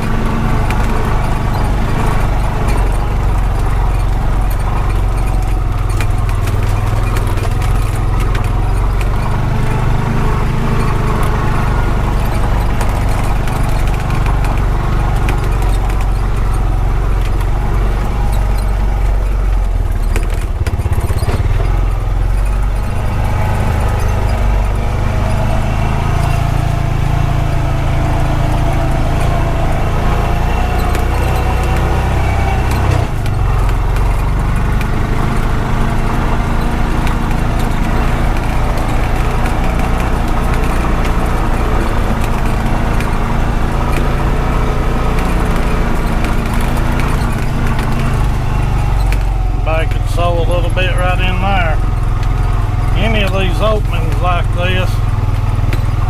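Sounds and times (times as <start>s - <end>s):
utility vehicle engine running: 0.0s - 56.0s
vehicle rattling over bumps: 0.0s - 56.0s.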